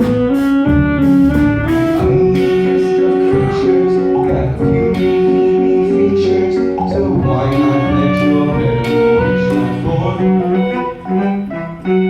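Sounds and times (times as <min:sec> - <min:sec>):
band playing held chords: 0:00.0 - 0:12.0.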